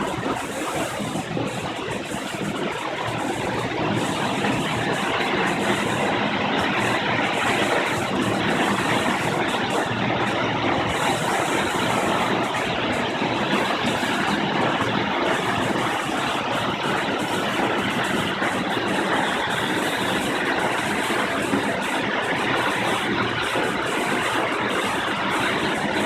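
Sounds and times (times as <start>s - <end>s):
waterfall rushing into pool: 0.0s - 26.0s.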